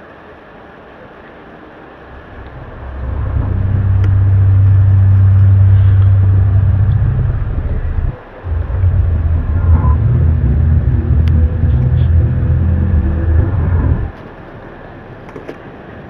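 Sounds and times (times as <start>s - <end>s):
loud low drone: 2.0s - 16.0s.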